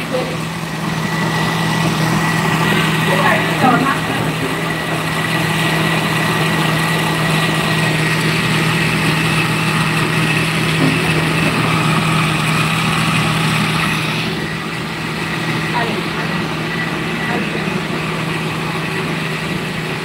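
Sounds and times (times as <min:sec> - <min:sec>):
blender motor running: 0:00.0 - 0:20.0.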